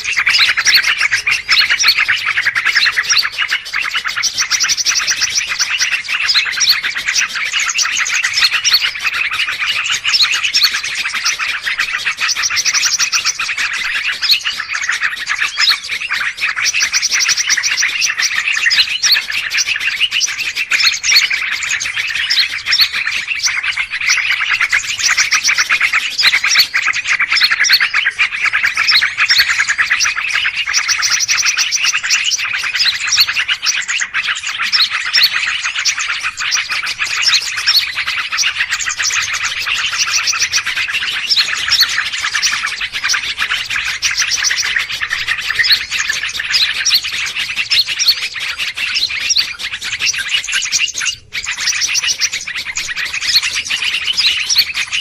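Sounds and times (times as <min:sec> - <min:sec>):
small birds chattering and chirping: 0:00.0 - 0:55.0.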